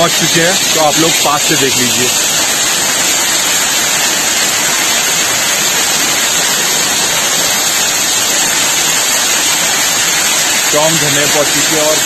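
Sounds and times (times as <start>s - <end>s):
waterfall splashing on rock: 0.0s - 12.0s.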